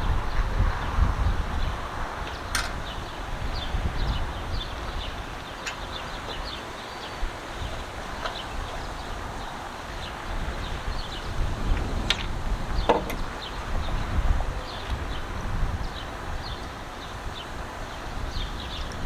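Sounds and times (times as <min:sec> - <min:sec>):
wind rumble on microphone: 0:00.0 - 0:19.0
small birds chirping: 0:00.3 - 0:19.0.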